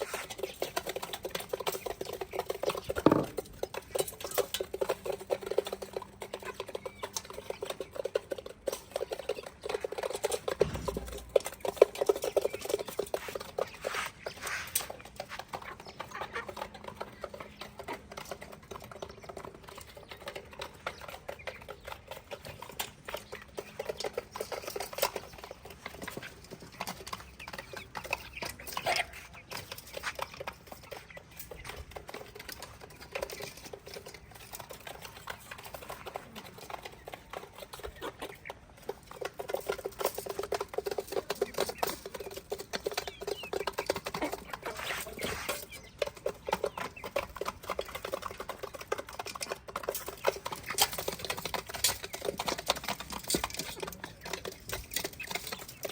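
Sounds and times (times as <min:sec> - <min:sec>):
chicks pecking on hard surface: 0:00.0 - 0:55.9.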